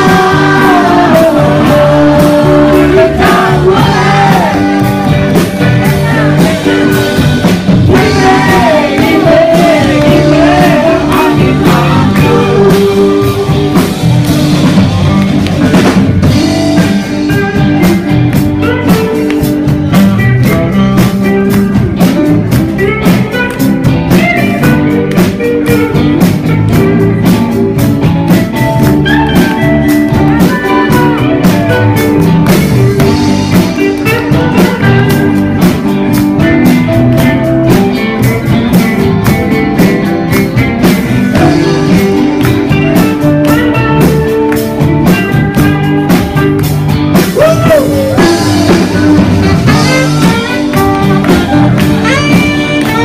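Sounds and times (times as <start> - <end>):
drum kit beat: 0.0 - 53.0
electric guitar: 0.0 - 53.0.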